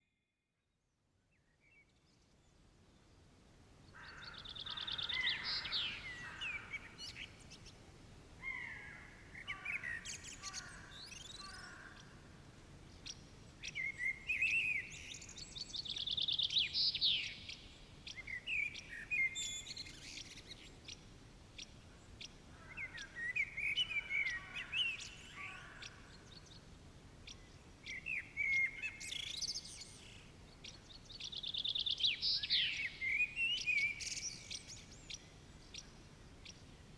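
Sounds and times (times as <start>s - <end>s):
faint steady hiss: 0.9s - 36.9s.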